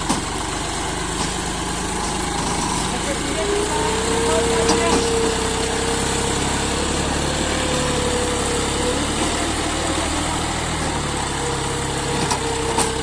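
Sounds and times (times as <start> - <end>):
diesel engine running with whine: 0.0 - 13.0.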